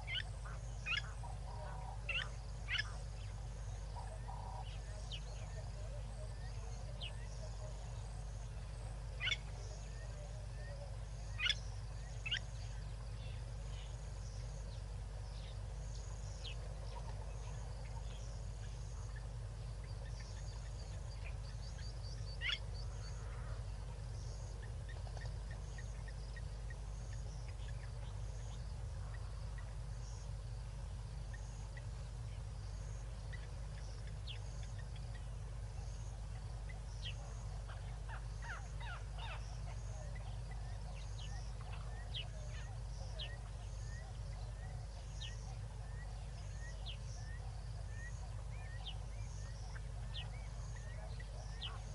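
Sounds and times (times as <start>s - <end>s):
faint insect chorus: 0.0s - 51.9s
steady low hum: 0.0s - 51.9s.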